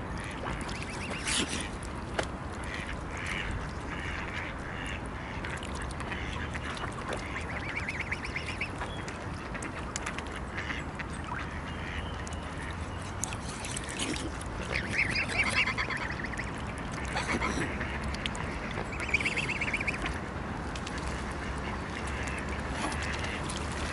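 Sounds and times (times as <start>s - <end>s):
waterfowl quacking calls: 0.2s - 1.8s, 2.6s - 8.9s, 10.4s - 20.2s, 21.1s - 23.9s.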